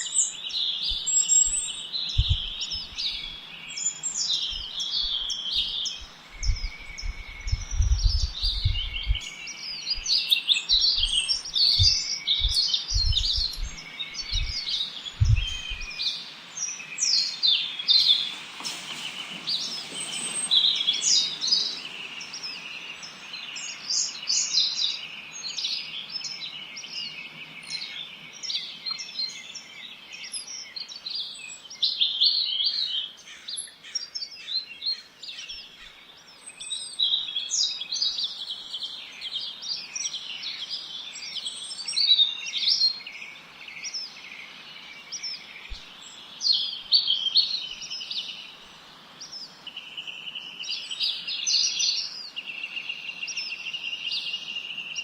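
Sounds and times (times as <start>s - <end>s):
faint background hiss: 0.0s - 55.0s
small birds chirping: 0.0s - 55.0s.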